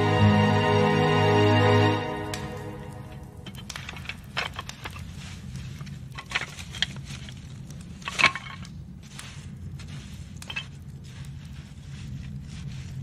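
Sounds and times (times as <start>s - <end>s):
campfire crackling: 0.0s - 13.0s
burning twigs snapping: 2.2s - 13.0s.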